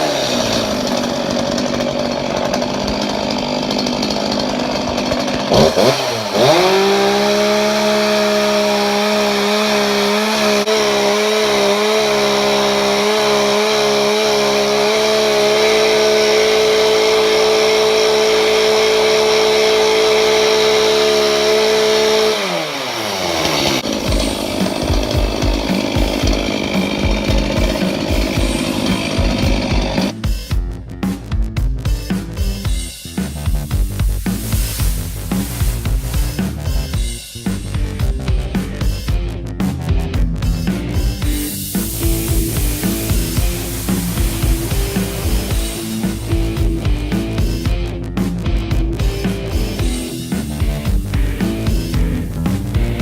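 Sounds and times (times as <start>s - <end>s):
chainsaw running: 0.0s - 30.5s, 32.0s - 53.0s.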